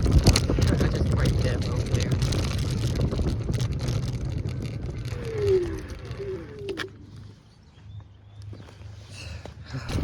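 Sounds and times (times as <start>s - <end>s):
wind and road rumble: 0.0s - 10.0s.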